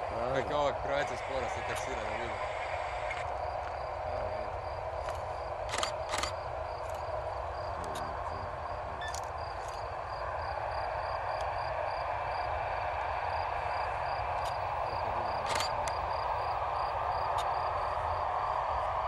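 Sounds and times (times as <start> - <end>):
insect chirping: 0.0 - 18.6
background hum and low rumble: 0.0 - 19.0.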